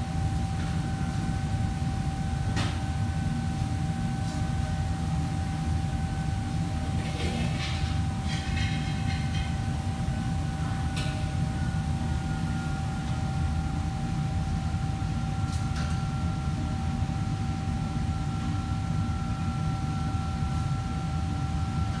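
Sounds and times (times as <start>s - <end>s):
constant high whine: 0.0s - 22.0s.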